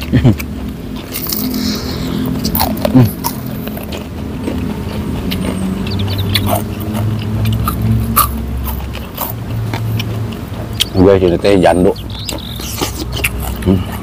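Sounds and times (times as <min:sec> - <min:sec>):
chewing and lip smacks: 0:00.0 - 0:14.0.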